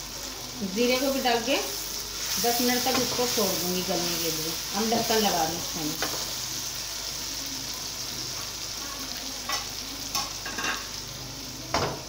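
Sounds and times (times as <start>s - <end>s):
vegetables sizzling in hot fat: 0.0s - 12.0s.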